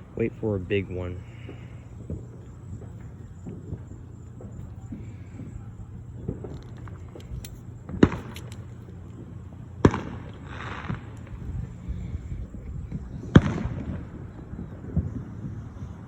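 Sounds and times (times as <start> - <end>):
fireworks bangs echoing: 0.0 - 16.0.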